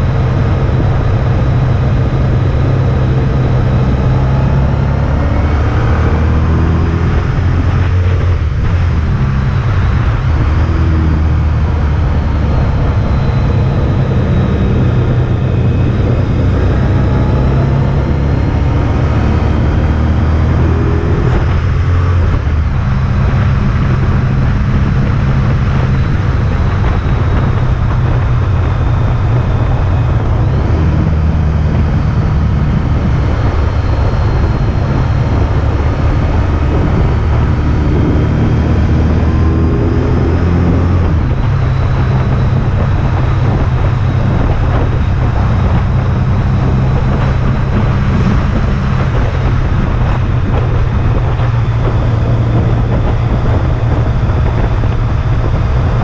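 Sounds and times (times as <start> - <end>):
motorcycle engine revving: 0.0 - 56.0
road noise rushing: 0.0 - 56.0.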